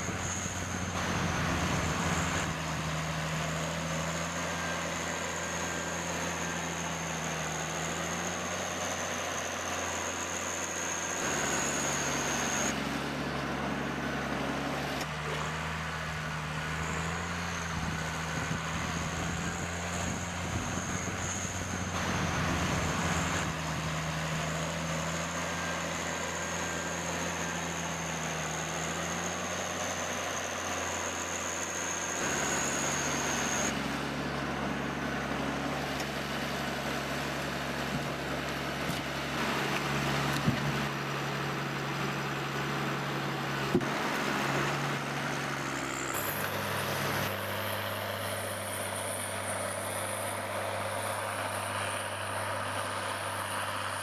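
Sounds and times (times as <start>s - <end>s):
heavy machinery engines running: 0.0s - 54.0s.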